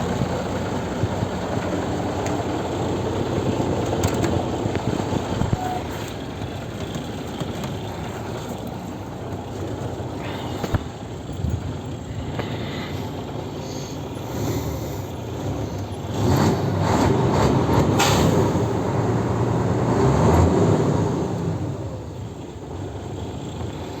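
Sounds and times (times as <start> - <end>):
diesel truck engine revving: 0.0 - 24.0.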